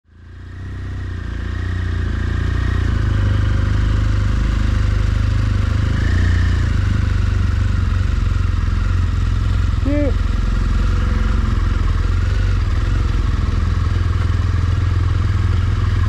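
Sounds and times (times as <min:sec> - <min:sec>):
motorcycle engine running: 0:00.1 - 0:16.0.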